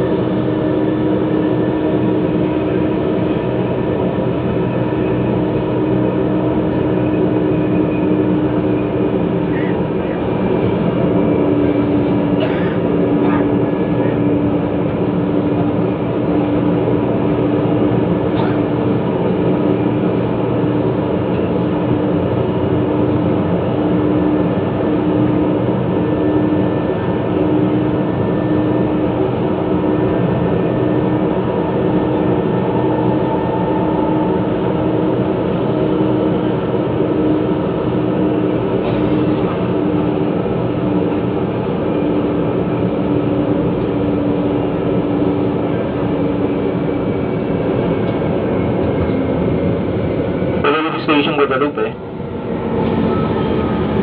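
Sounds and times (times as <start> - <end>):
steady hum: 0.0 - 54.0
train wheels rumbling on rails: 0.0 - 54.0.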